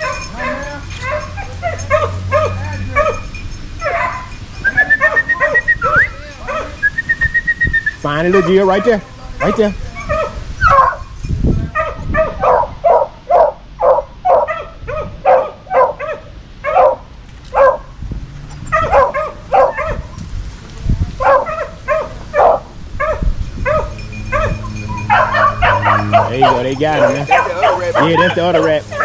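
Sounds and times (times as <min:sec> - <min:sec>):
puppies yipping and barking: 0:00.0 - 0:20.3, 0:21.2 - 0:29.0.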